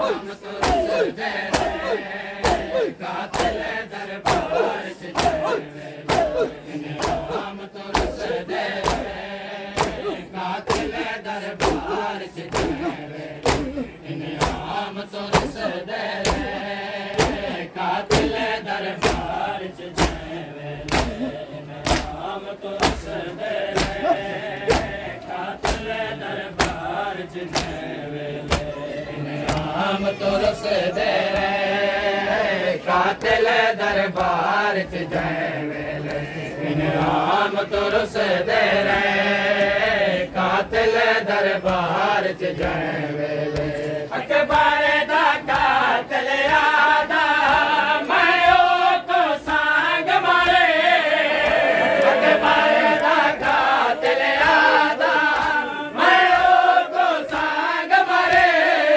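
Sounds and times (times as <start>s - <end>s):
hands slapping chests: 0.0s - 31.6s, 32.2s - 35.2s, 36.0s - 36.3s, 41.5s - 58.9s
crowd of men chanting: 0.0s - 58.9s.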